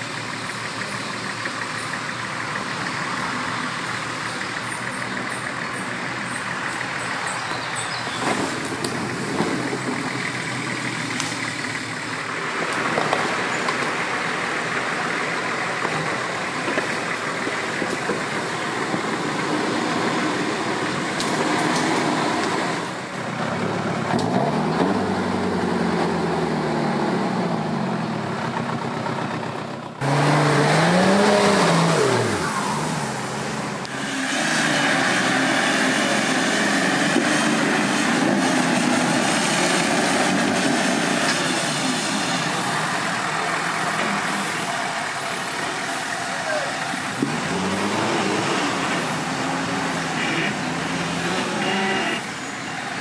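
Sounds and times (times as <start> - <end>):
engine revving: 0.0 - 29.1, 30.0 - 53.0.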